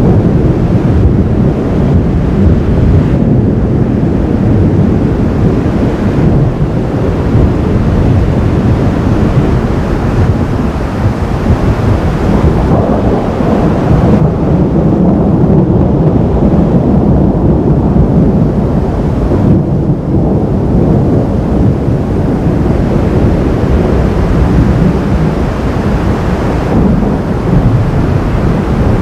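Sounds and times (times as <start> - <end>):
thunder rumbling: 0.0 - 29.0.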